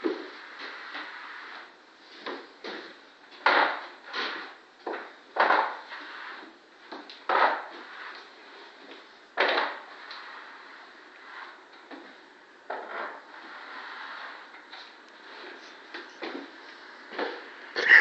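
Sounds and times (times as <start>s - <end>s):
spatula scraping wet plaster: 0.0s - 1.8s, 3.4s - 16.4s.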